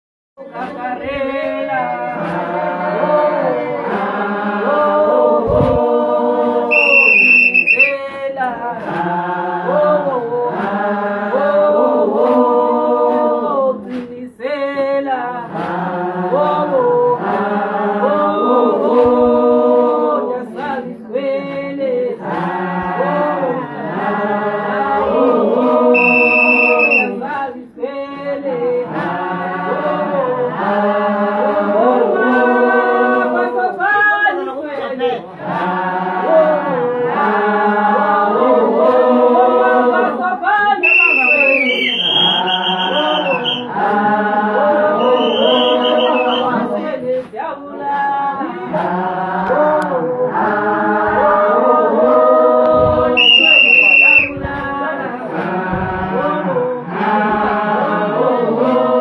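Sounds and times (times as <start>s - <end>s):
women singing together: 0.4s - 59.0s.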